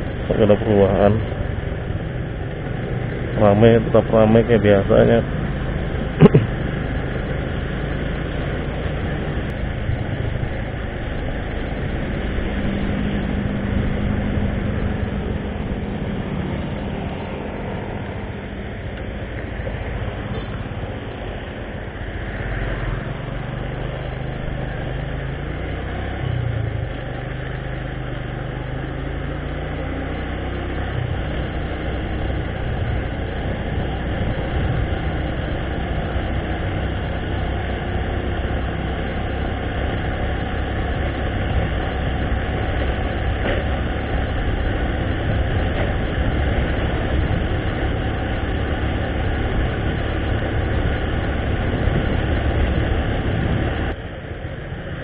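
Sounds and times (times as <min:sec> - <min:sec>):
vehicle engine drone: 0:00.0 - 0:55.0
wind and road noise: 0:00.0 - 0:55.0.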